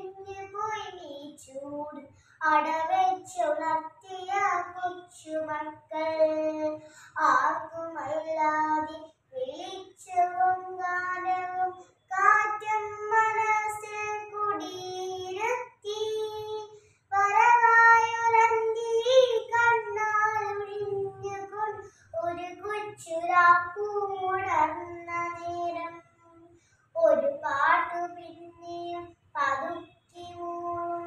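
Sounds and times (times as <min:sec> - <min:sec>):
girl chanting a poem: 0:00.0 - 0:31.0.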